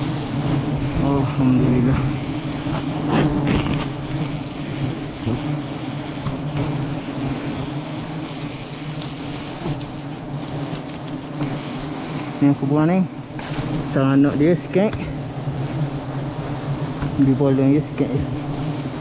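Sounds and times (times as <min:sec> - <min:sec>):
swarm of bees humming: 0:00.0 - 0:19.0.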